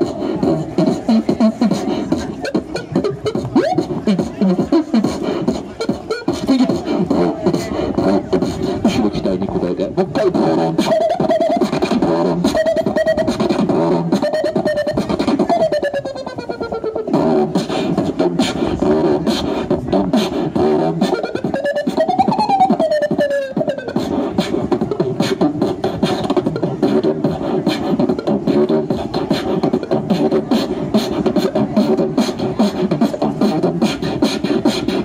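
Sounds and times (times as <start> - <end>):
beatboxing through amplifier: 0.0 - 35.0.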